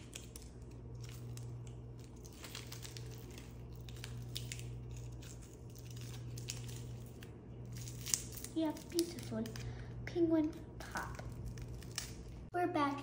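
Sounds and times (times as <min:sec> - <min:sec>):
plastic wrapper crinkling: 0:00.0 - 0:09.7, 0:11.0 - 0:12.5
steady low hum: 0:00.0 - 0:13.0.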